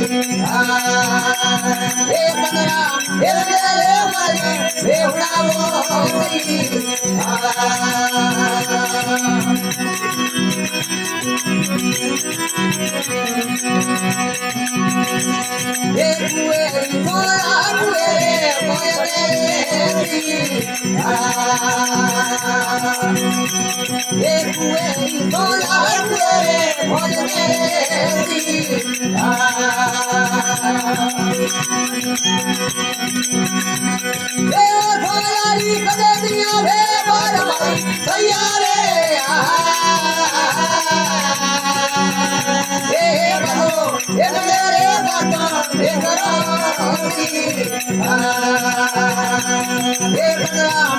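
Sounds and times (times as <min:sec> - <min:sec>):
person singing melody: 0:00.0 - 0:33.0, 0:33.9 - 0:50.9
fast rattling percussion: 0:00.0 - 0:50.9
string instrument drone: 0:00.0 - 0:50.9.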